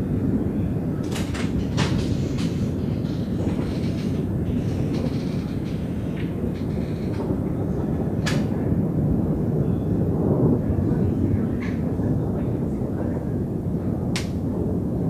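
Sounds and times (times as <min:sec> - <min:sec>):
thunder rolling low rumble: 0:00.0 - 0:15.0.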